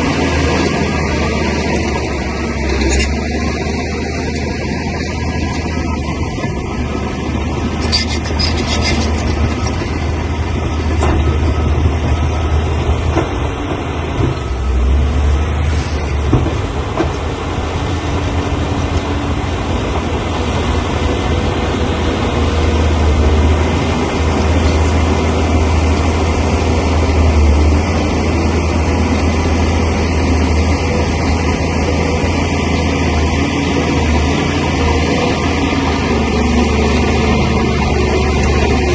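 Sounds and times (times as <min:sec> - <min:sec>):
diesel engine droning: 0:00.0 - 0:38.9
steel tracks clanking: 0:00.0 - 0:38.9.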